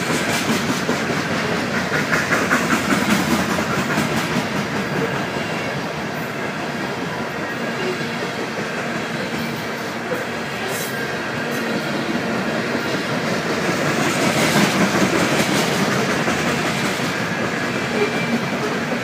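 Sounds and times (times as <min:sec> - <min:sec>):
freight train wheels clickety-clack: 0:00.0 - 0:19.0.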